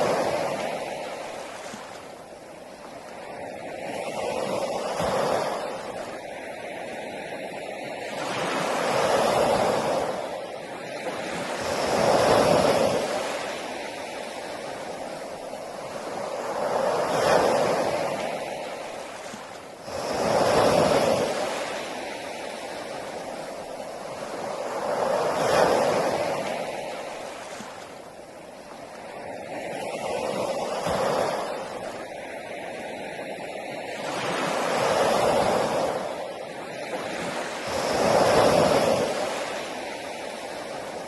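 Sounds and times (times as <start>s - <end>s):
sea waves washing onto beach: 0.0s - 41.0s.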